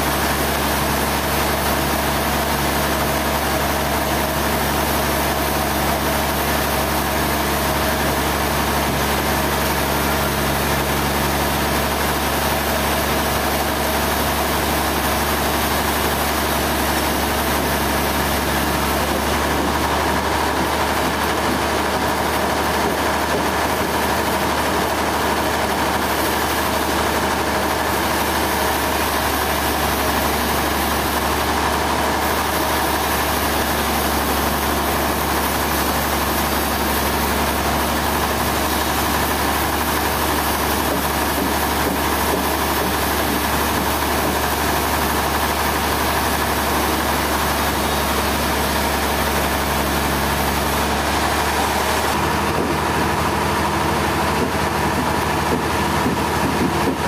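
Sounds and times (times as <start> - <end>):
sawmill machine drone: 0.0 - 57.0.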